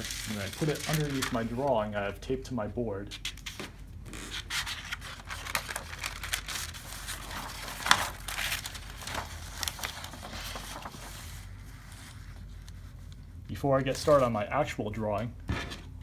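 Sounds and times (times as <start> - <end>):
paper rustling and crinkling: 0.0 - 1.8, 3.2 - 14.4.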